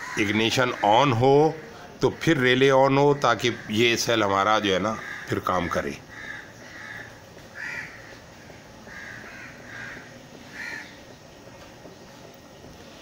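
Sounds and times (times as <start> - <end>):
bird calling: 0.0 - 4.2, 4.8 - 13.0.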